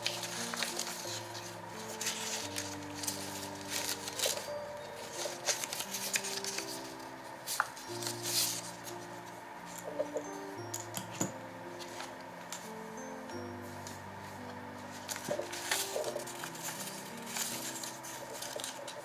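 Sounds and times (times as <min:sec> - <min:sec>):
paper cards rustling: 0:00.0 - 0:13.1, 0:13.7 - 0:19.0
soft music of held chords: 0:00.0 - 0:19.0.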